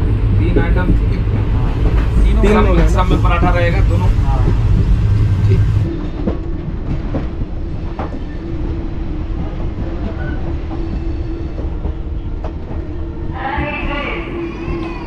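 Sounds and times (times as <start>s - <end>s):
train rumbling and rattling: 0.0s - 15.0s.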